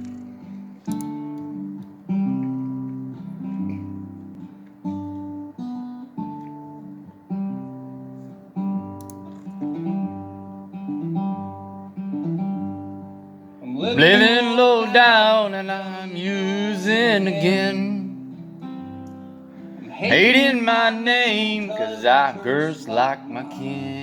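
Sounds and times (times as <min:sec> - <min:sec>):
acoustic guitar chords ringing: 0:00.0 - 0:24.0.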